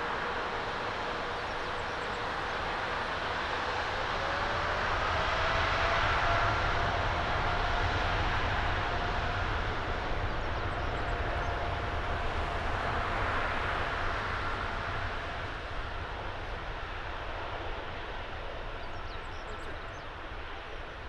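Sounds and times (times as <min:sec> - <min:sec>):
faint engine whine: 0:00.0 - 0:21.0
jet engines rumbling: 0:00.0 - 0:21.0.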